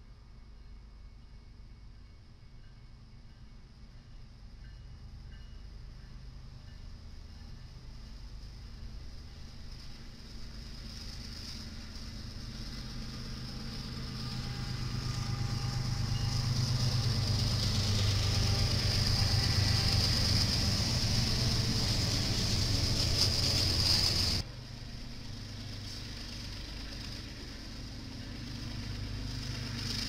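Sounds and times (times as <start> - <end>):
diesel locomotive rumble: 1.6 - 30.0.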